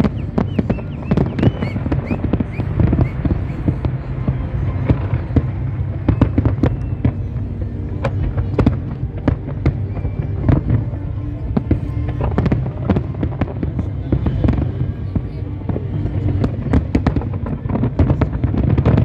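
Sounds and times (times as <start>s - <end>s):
fireworks bangs and crackles: 0.0s - 19.0s
low rumble: 0.0s - 19.0s.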